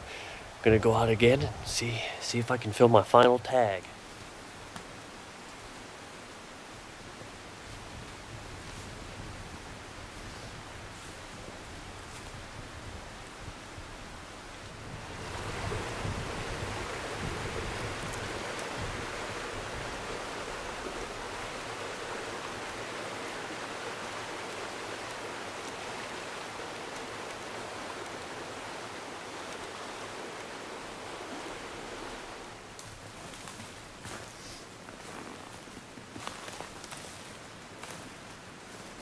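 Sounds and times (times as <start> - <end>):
steady rushing hiss: 0.0 - 39.0.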